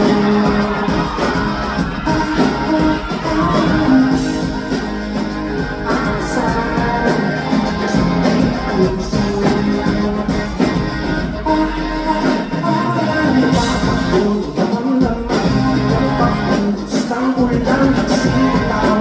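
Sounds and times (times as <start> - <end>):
guitar: 0.0 - 19.0
indie pop band playing: 0.0 - 19.0
steady drum beat: 0.0 - 19.0.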